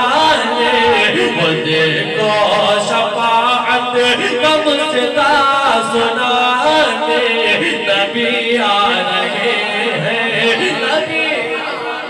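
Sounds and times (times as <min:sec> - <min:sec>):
man singing devotional hymn: 0:00.0 - 0:12.0
overlapping voice layers: 0:00.0 - 0:12.0.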